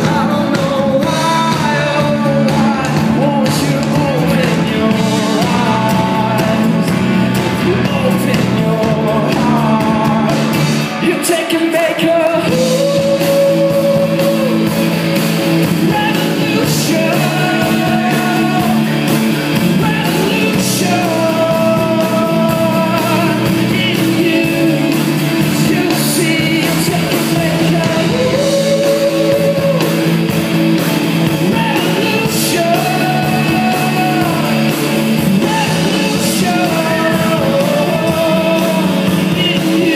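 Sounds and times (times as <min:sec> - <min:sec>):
lead singer singing: 0:00.0 - 0:39.9
live rock band playing: 0:00.0 - 0:39.9.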